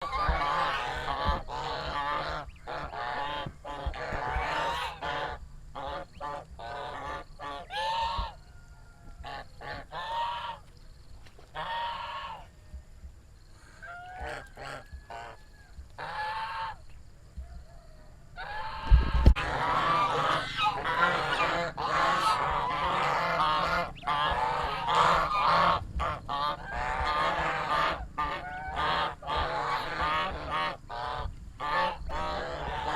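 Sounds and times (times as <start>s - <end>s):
geese honking: 0.0s - 10.7s, 11.3s - 12.6s, 13.6s - 17.0s, 18.3s - 32.9s.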